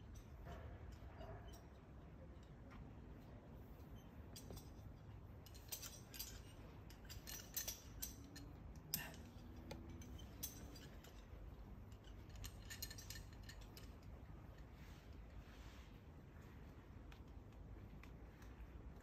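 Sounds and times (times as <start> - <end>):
carabiners clinking and clicking: 0.0 - 15.4.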